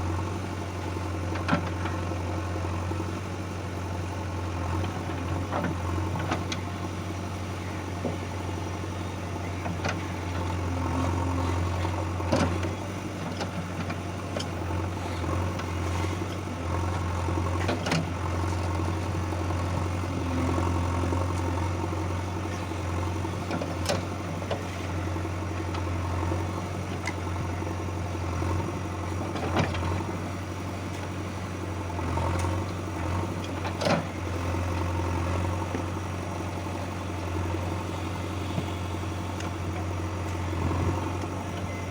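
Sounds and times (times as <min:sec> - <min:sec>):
diesel machinery engine hum: 0:00.0 - 0:41.9.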